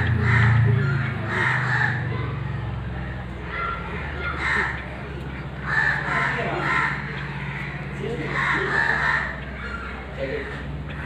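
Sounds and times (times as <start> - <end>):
crows cawing: 0.0 - 11.0
steady low hum: 0.0 - 11.0.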